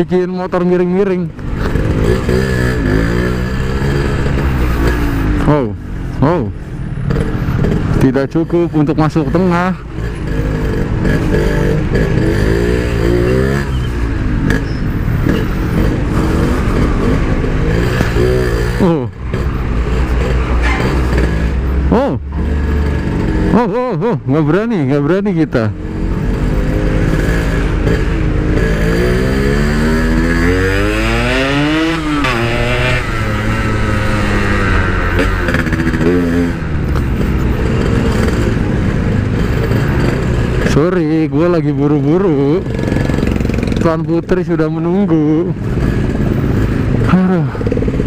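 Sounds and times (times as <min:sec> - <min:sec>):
two-stroke motorcycle engine revving: 0:00.0 - 0:48.0.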